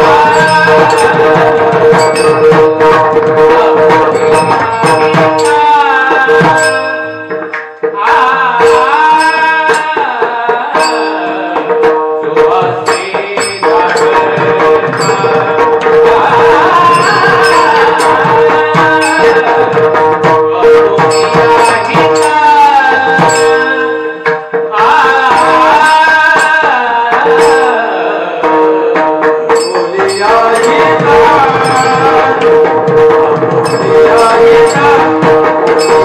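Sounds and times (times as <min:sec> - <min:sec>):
man singing devotional melody: 0:00.0 - 0:36.0
mridang drumming: 0:00.0 - 0:36.0.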